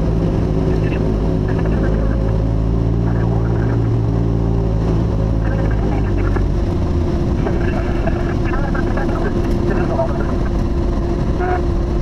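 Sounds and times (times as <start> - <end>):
propeller engine droning: 0.0 - 12.0.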